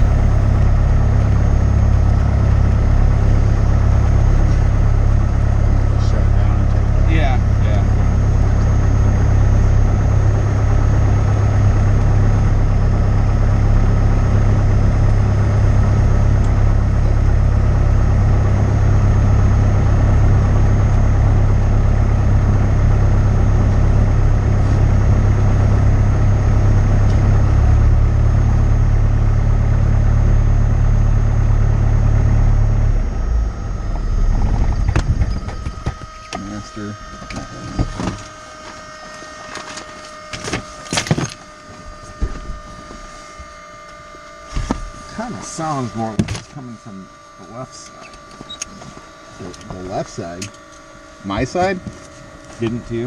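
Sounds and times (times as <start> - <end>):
aircraft piston engine droning: 0.0 - 53.0.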